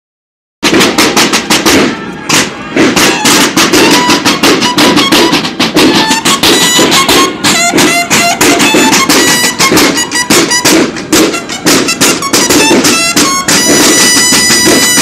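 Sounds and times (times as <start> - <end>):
bugle notes: 0.6 - 15.0
snare drum march cadence: 0.6 - 15.0.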